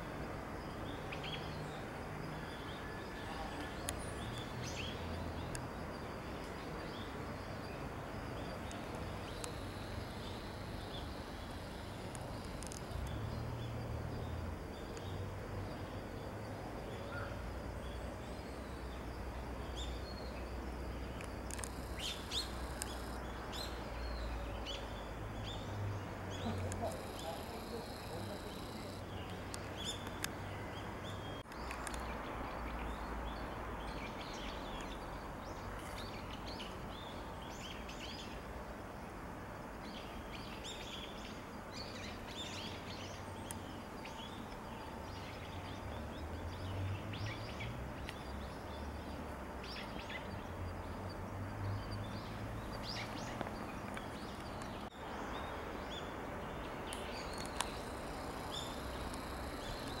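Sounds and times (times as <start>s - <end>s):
steady background hiss: 0.0s - 60.0s
small birds chirping: 2.6s - 38.4s, 39.9s - 60.0s.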